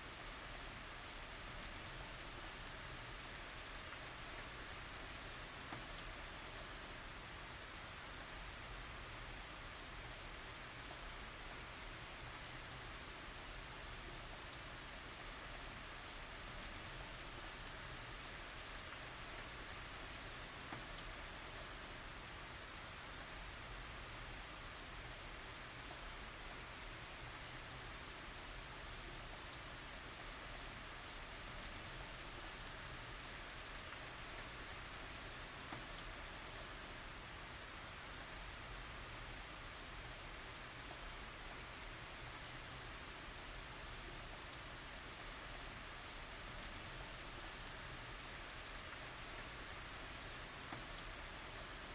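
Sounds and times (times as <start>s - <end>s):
rain falling: 0.0s - 51.9s
raindrop ticks: 0.1s - 7.3s, 8.0s - 22.3s, 23.0s - 51.9s.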